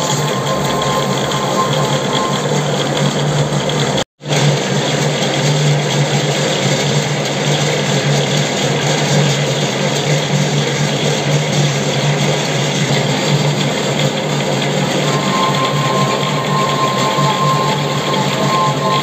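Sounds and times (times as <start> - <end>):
metal lathe humming: 0.0 - 4.5, 8.0 - 19.0.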